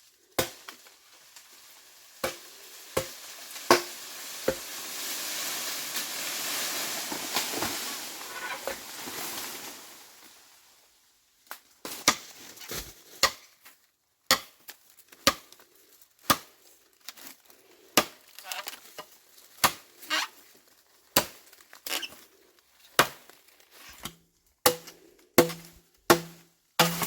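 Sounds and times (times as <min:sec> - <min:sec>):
rustling and crinkling: 0:00.0 - 0:10.8, 0:11.6 - 0:14.0, 0:14.6 - 0:25.9.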